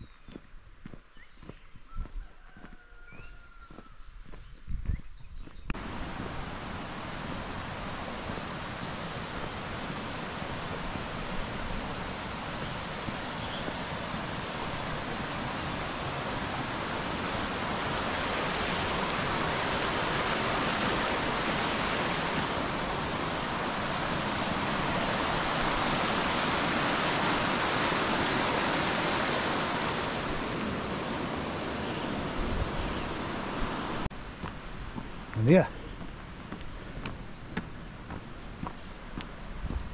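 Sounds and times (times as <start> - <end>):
mountain stream rushing: 5.8 - 38.6.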